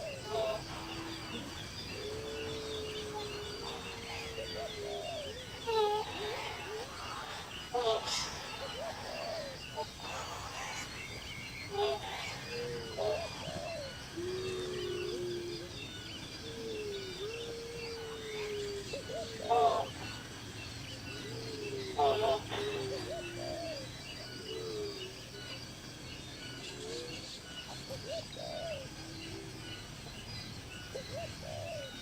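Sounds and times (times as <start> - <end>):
birds whistling: 0.0 - 32.0.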